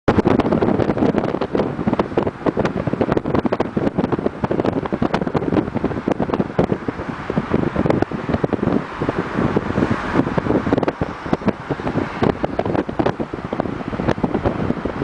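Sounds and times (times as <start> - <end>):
car road noise: 0.1 - 15.0
wind buffeting microphone: 0.1 - 15.0.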